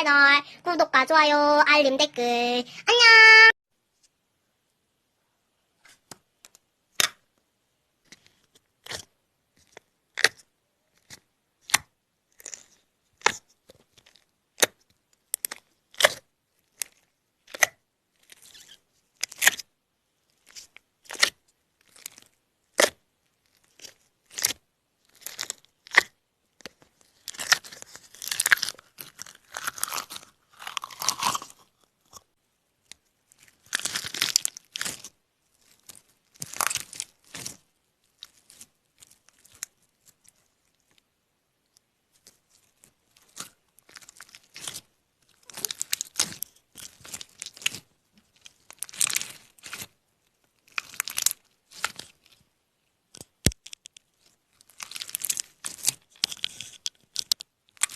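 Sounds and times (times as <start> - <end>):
crinkling and crackling: 8.0 - 52.5, 53.1 - 57.9.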